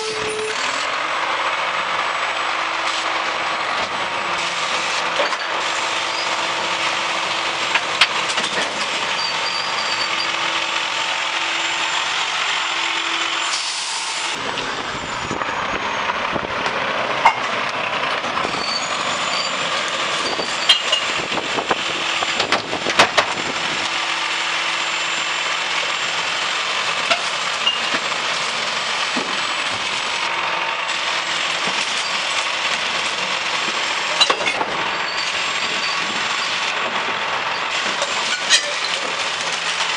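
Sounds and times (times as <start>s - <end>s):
diesel engine idling: 0.0s - 38.3s.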